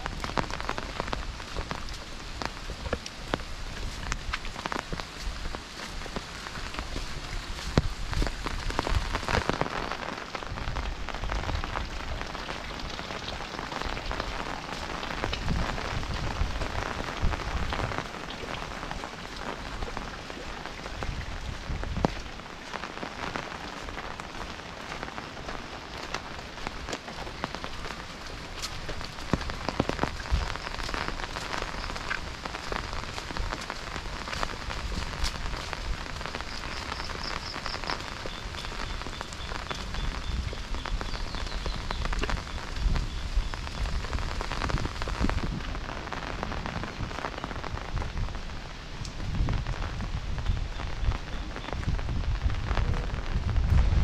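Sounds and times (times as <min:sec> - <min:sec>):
close raindrop impacts: 0:00.0 - 0:54.0
rain falling on foliage: 0:00.0 - 0:54.0.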